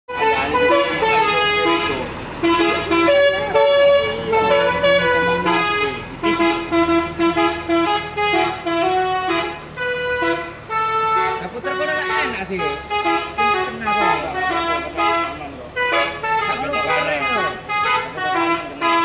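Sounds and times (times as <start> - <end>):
musical bus air horn: 0.1 - 19.0.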